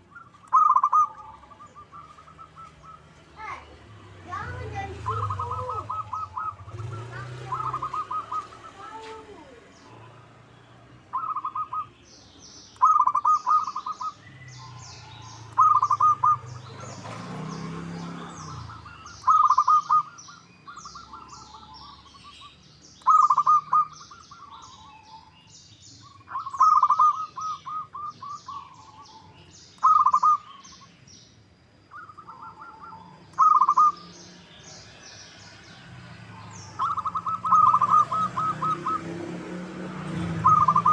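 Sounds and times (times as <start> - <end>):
doves cooing: 0.0 - 12.0, 12.8 - 30.9, 31.9 - 40.9
small birds chirping: 0.0 - 40.9.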